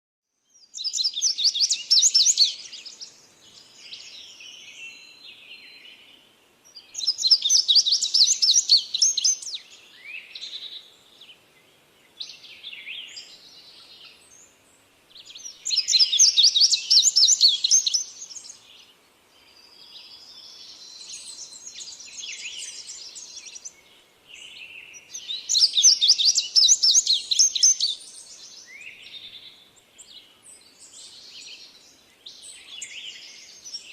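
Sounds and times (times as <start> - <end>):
quieter bird chirps and calls: 0.4 - 33.9.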